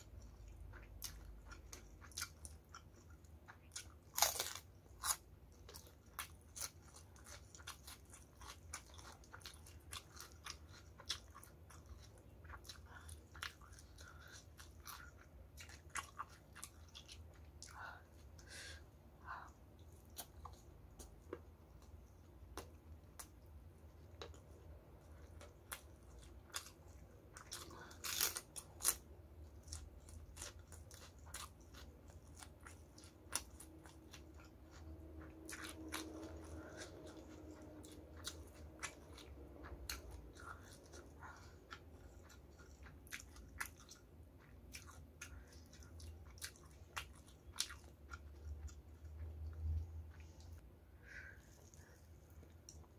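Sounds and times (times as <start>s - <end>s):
chewing crispy food: 0.0s - 52.9s.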